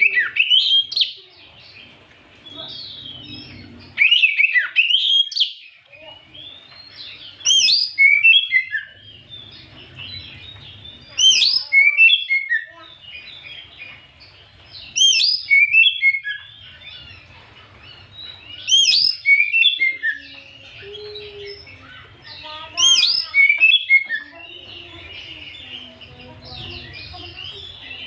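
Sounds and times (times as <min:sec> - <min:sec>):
bird whistling and chattering song: 0:00.0 - 0:01.2, 0:02.5 - 0:28.0.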